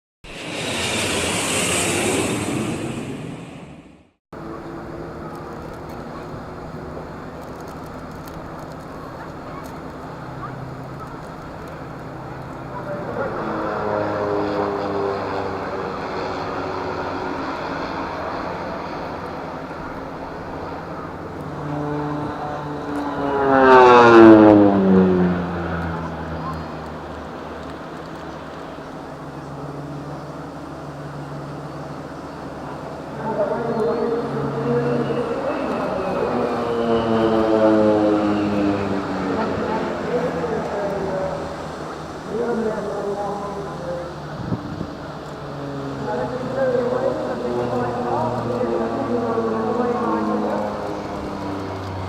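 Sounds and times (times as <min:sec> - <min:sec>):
aircraft engine drone: 0:00.2 - 0:52.0
turboprop aircraft passing: 0:00.2 - 0:52.0.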